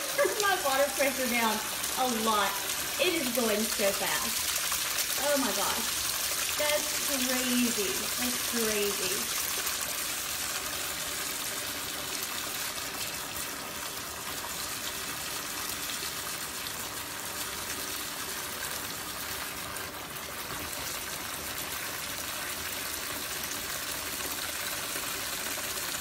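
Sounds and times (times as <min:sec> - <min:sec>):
bathtub faucet running: 0:00.0 - 0:26.0
water splashing on spinner: 0:00.0 - 0:26.0.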